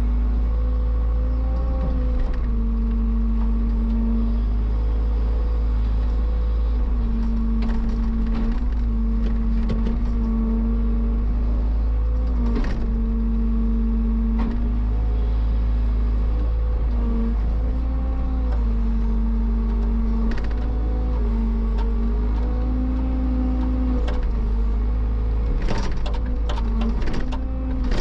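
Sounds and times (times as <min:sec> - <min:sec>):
heavy machinery engine rumbling: 0:00.0 - 0:28.0.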